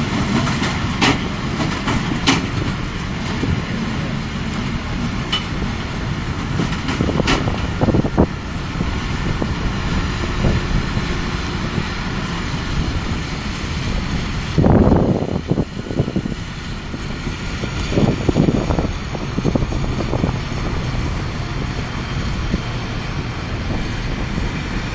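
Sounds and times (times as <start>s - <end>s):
baler mechanical drone: 0.0s - 24.9s
tractor diesel engine under load: 0.0s - 24.9s.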